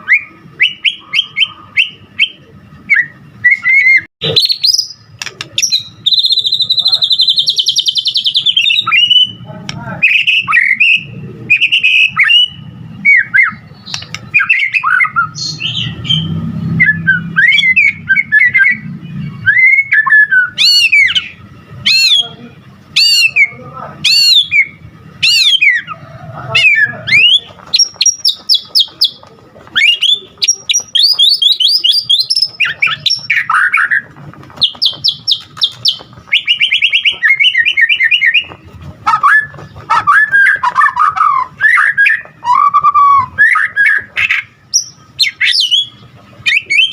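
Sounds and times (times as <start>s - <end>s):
songbird singing varied song: 0.0s - 22.4s, 29.8s - 38.6s, 39.2s - 46.9s.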